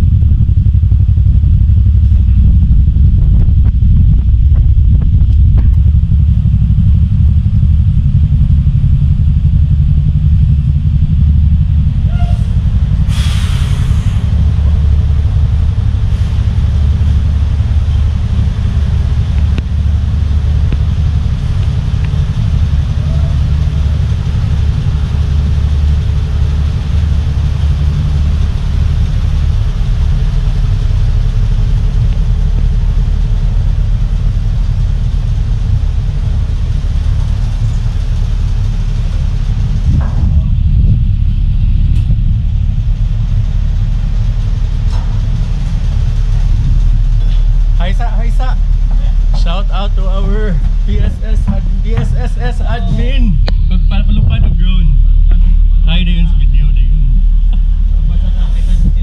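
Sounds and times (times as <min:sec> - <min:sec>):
ferry engines rumbling: 0:00.0 - 0:59.0.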